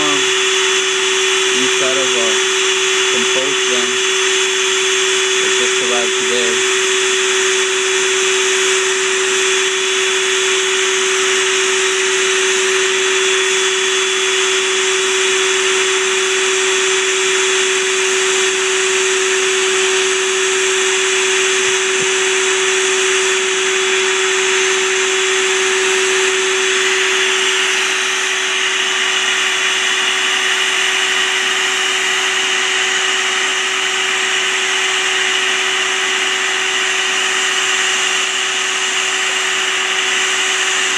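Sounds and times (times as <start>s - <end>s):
vacuum motor whining: 0.0s - 40.9s.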